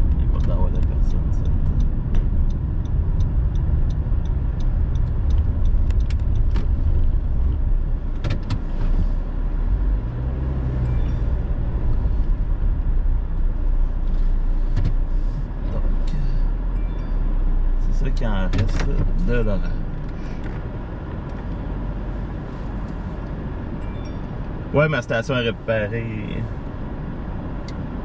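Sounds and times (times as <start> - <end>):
road and engine rumble: 0.0 - 28.0.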